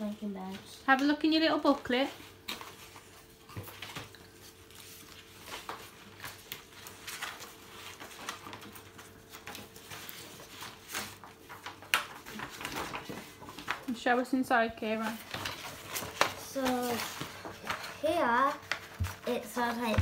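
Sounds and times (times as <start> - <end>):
paper and cardboard rustling: 0.0 - 20.0.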